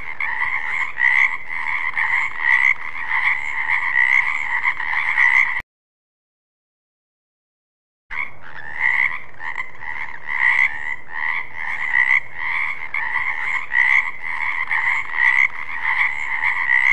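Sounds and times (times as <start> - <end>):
frogs croaking: 0.0 - 5.6, 8.1 - 16.9.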